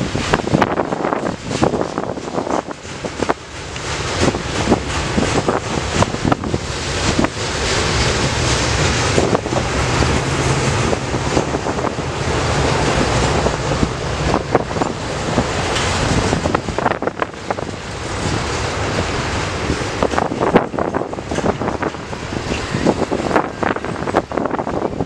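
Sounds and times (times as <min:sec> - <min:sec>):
steel wheels rumbling on rail: 0:00.0 - 0:25.0
wind buffeting microphone: 0:00.0 - 0:25.0.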